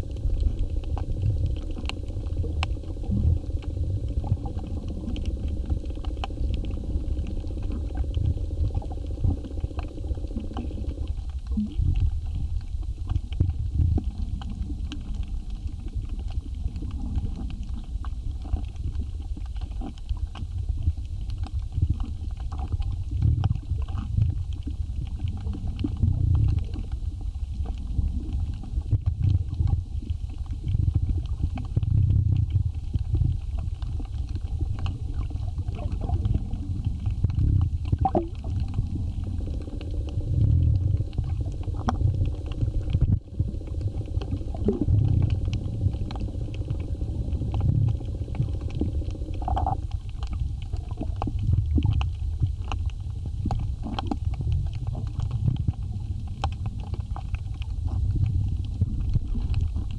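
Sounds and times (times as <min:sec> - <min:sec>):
crackling clicks: 0:00.0 - 0:59.9
steady hum: 0:00.0 - 0:59.9
underwater water rumbling: 0:00.0 - 0:59.9.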